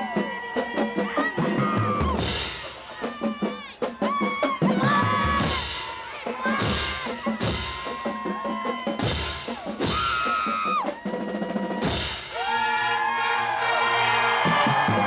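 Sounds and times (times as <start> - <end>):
crowd cheering and yelling: 0.0 - 15.0
marching band drumline: 0.0 - 15.0.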